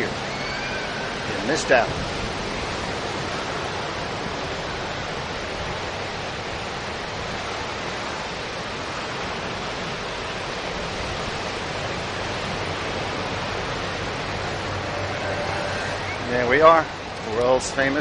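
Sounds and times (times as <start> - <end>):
ocean surf breaking: 0.0 - 18.0.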